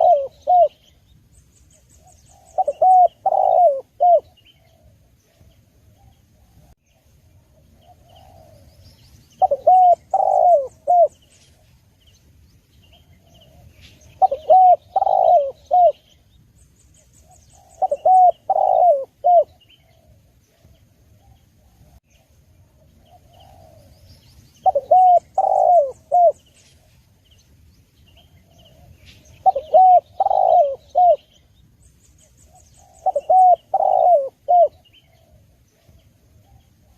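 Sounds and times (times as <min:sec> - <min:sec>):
dove cooing: 0:00.0 - 0:01.0, 0:01.8 - 0:11.8, 0:12.9 - 0:16.2, 0:17.0 - 0:27.0, 0:28.2 - 0:31.5, 0:32.3 - 0:36.9
small birds chirping: 0:00.0 - 0:36.9.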